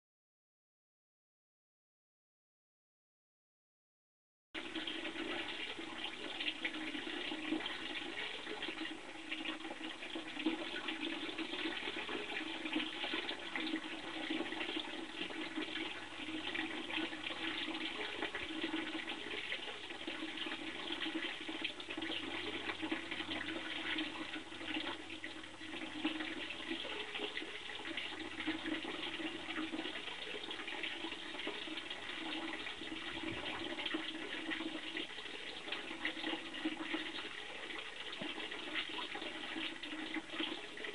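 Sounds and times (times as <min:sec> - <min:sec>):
water splashing into pond: 0:04.6 - 0:40.9.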